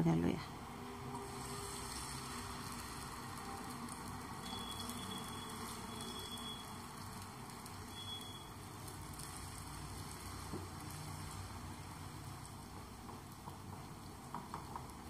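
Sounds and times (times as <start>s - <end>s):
oil sizzling in a pan: 0.5s - 15.0s.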